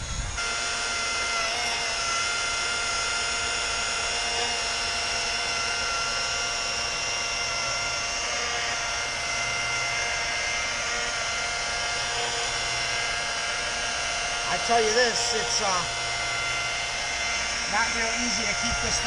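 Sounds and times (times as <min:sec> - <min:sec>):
electric buffer on glass: 0:00.0 - 0:19.0.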